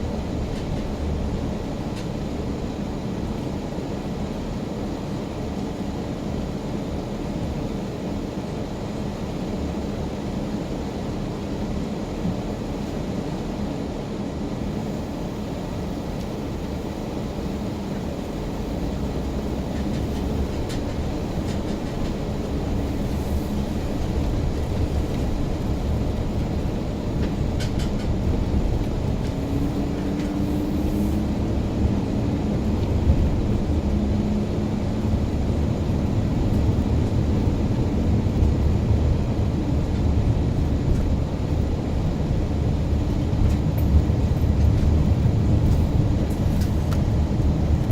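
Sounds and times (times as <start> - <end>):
car engine and road noise: 9.6 - 47.9.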